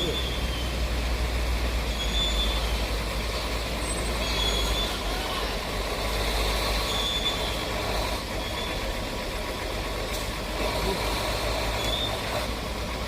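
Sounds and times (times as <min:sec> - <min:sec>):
heavy vehicle engine rumbling: 0:00.0 - 0:13.0.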